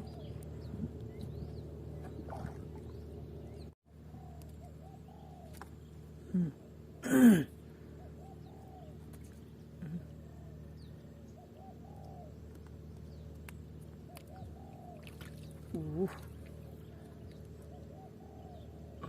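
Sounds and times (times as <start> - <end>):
birds chirping: 0.0 - 7.0, 7.6 - 19.0
steady low hum: 0.0 - 19.0.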